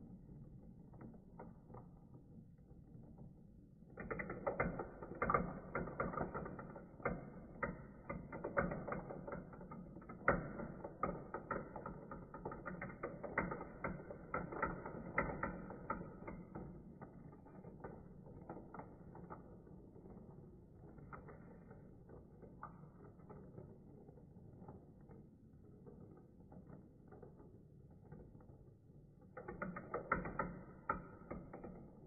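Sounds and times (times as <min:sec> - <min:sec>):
marbles clattering in plastic run: 0:03.9 - 0:28.6, 0:29.4 - 0:32.0.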